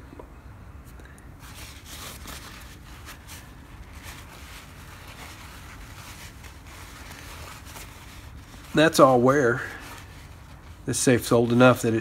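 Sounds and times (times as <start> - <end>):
paper towel rustling: 1.4 - 12.0.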